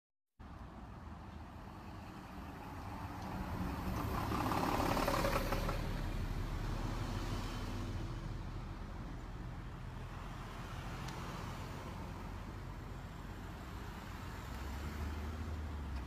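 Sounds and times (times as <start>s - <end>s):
bus driving past: 0.4s - 16.0s
van and car driving past: 0.7s - 16.0s.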